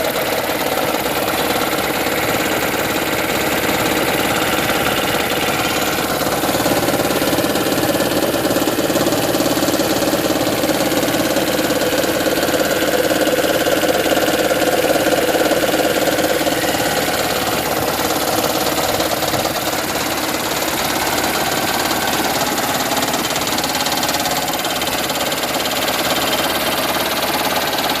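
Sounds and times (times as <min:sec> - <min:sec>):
car engine idling with rough knocking: 0:00.0 - 0:28.0.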